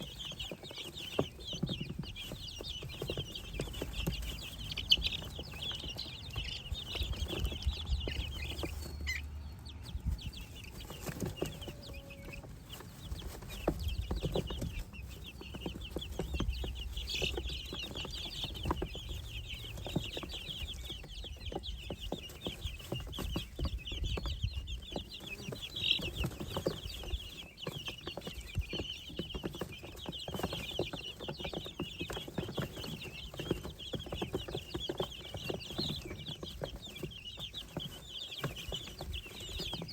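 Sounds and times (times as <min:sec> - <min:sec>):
baby birds peeping: 0:00.0 - 0:39.9.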